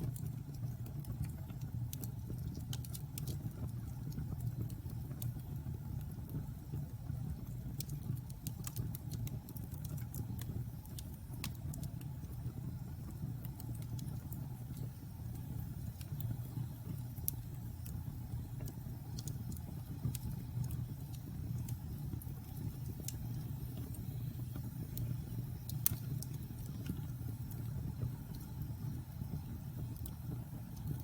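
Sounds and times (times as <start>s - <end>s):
fire crackles and pops: 0.0s - 31.0s
low rumble of flames: 0.0s - 31.0s.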